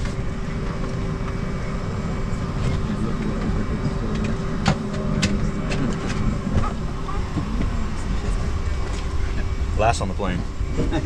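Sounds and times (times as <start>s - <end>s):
cabin ventilation rumble and hum: 0.0s - 11.0s.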